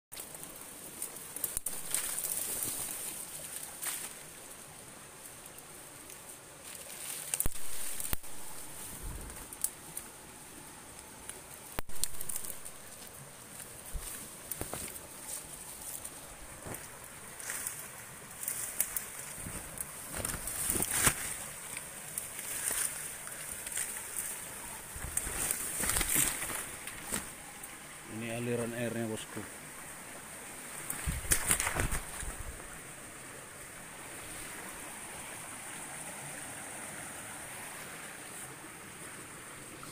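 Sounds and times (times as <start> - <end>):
undergrowth rustling: 0.1 - 39.9
steady high hiss: 0.2 - 39.9.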